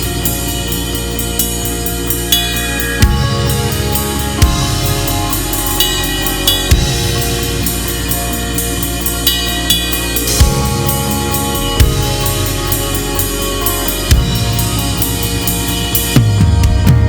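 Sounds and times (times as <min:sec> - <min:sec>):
backing music track: 0:00.0 - 0:17.0
drum kit playing: 0:00.0 - 0:17.0.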